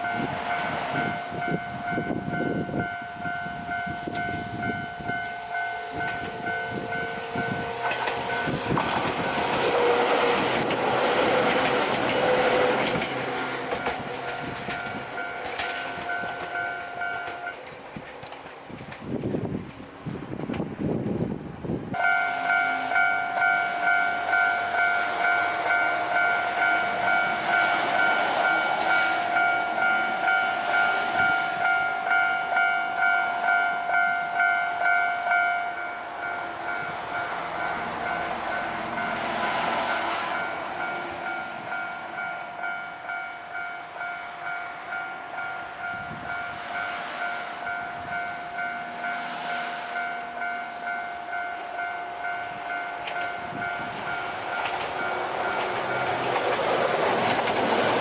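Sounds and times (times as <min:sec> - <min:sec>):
level crossing alarm bell: 0:00.0 - 0:09.8, 0:13.7 - 0:17.6, 0:22.0 - 0:39.2, 0:39.9 - 0:56.3
electric train running: 0:00.0 - 0:21.2, 0:21.9 - 0:58.0.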